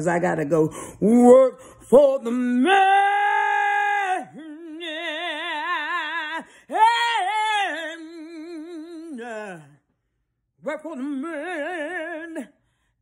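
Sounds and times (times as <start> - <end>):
woman singing a cappella: 0.0 - 13.0.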